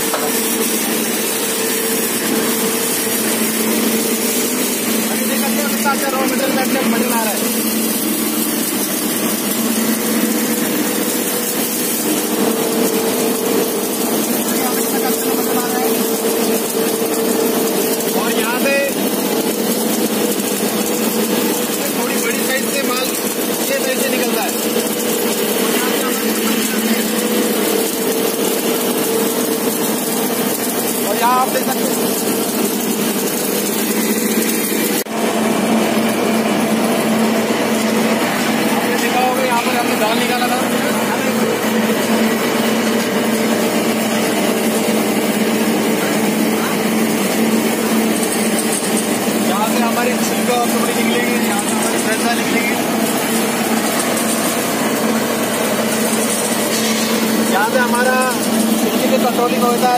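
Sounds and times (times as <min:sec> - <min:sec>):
mill machine hum: 0:00.0 - 0:59.9.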